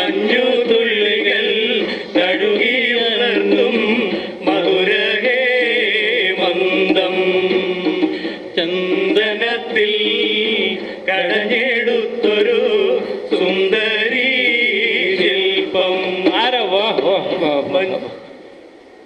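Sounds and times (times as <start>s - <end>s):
men singing slow song: 0.0s - 18.1s.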